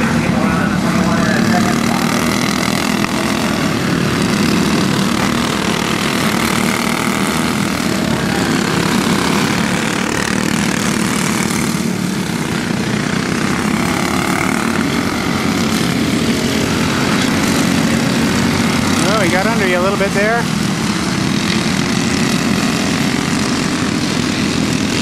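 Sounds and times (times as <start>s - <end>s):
racing kart engines buzzing: 0.0s - 25.0s.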